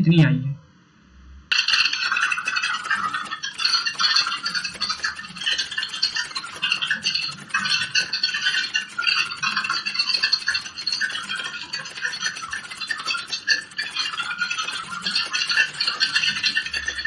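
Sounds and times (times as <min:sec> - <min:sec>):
fast keyboard typing: 0:01.5 - 0:17.0.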